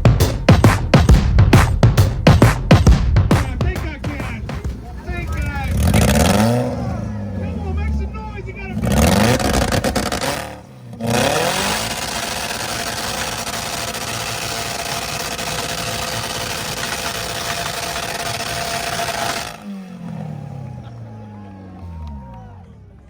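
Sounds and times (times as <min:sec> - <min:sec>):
car engine backfire pops: 0:00.0 - 0:07.4, 0:08.8 - 0:21.0.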